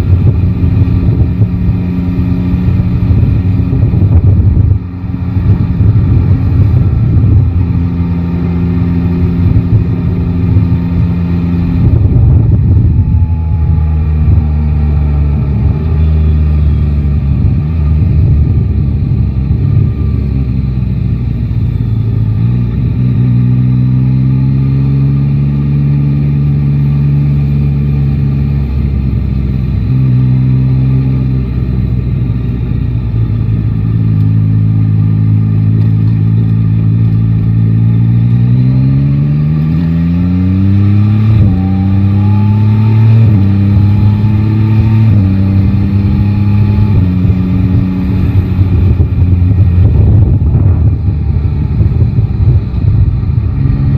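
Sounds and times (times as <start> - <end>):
low wind rumble: 0.0 - 53.9
motorcycle engine accelerating: 0.0 - 53.9.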